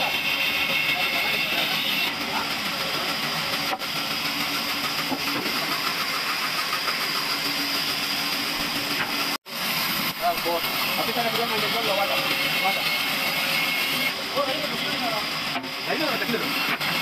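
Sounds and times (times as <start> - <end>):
sawmill saws ripping planks: 0.0 - 17.0.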